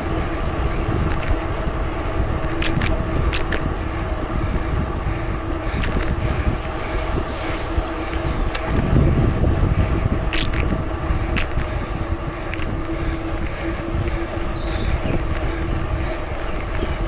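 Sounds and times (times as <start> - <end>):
bicycle clicks and rattles: 0.0 - 17.0
bicycle tyre rumble: 0.0 - 17.0.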